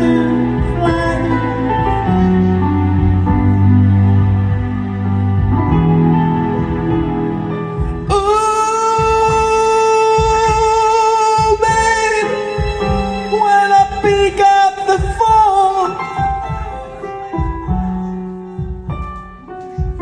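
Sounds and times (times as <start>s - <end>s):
person singing: 0.0s - 4.6s, 7.7s - 20.0s
piano: 0.0s - 20.0s.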